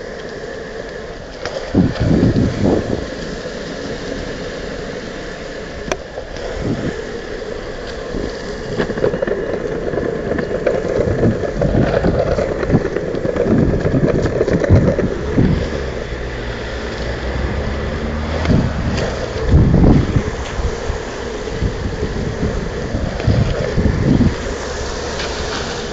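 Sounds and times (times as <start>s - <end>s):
skateboard wheels rolling on wet pavement: 0.0s - 25.9s
wind buffeting microphone: 0.0s - 25.9s.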